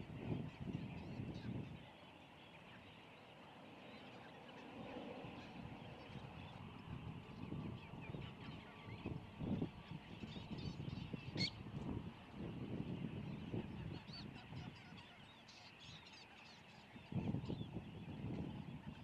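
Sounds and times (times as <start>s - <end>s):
distant waterbirds calling: 0.0s - 19.0s.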